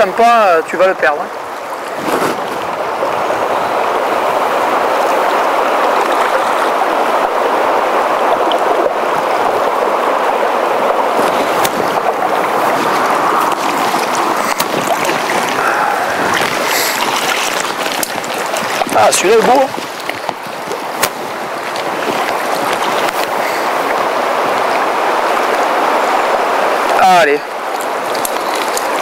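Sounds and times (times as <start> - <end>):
river rushing over stones: 0.0 - 29.0.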